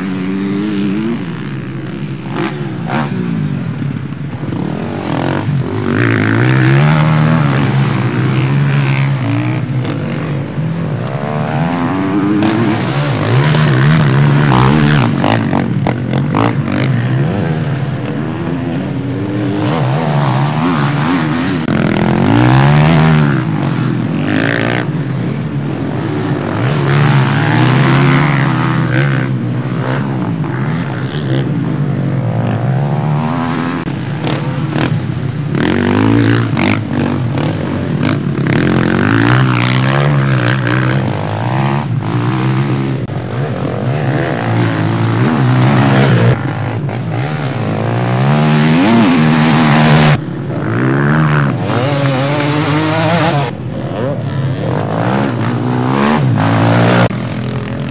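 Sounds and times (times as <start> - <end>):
motorcycle engines revving: 0.0 - 57.9.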